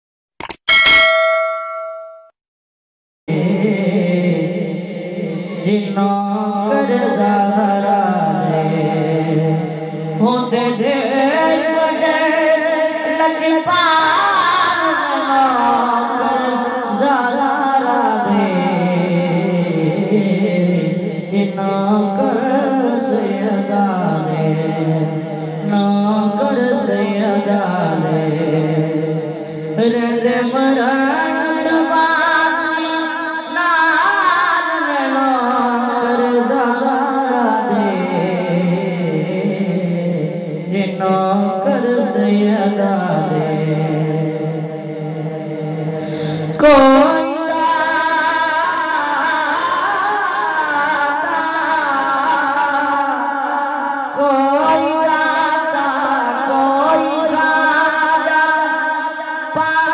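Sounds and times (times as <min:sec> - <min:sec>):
man singing unaccompanied: 0:03.3 - 0:59.9.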